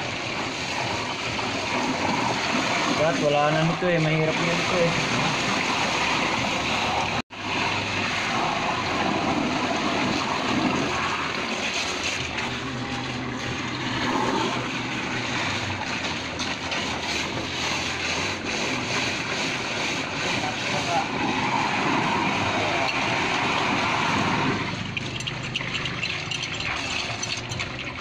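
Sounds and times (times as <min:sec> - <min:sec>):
water gushing from a pipe: 0:00.0 - 0:28.0.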